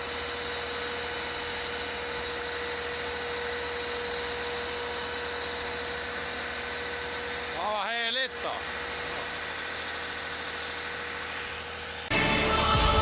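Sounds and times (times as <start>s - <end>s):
mechanical hum and hiss: 0.0s - 12.5s
constant whining tone: 0.0s - 13.0s.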